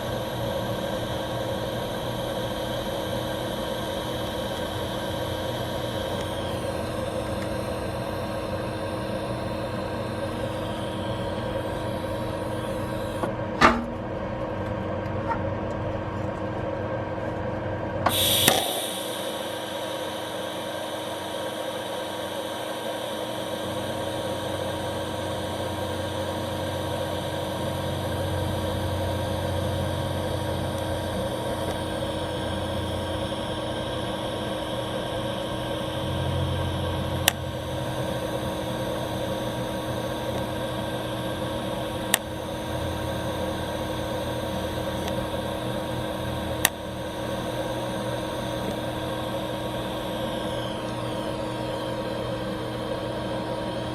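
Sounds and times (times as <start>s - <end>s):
welding equipment electrical hum: 0.0s - 53.9s.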